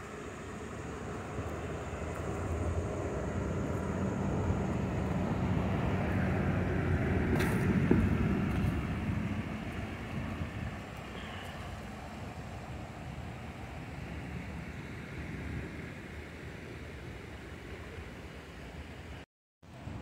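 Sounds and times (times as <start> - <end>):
vehicle engine rumble passing: 0.0 - 19.0.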